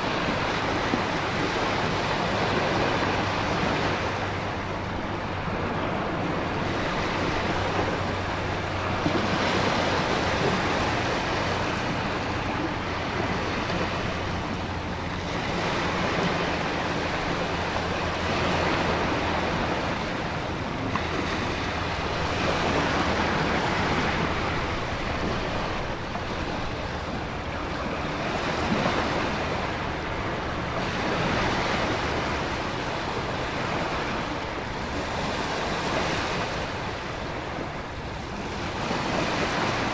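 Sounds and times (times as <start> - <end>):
ocean waves breaking: 0.0 - 39.9
wind: 0.0 - 39.9.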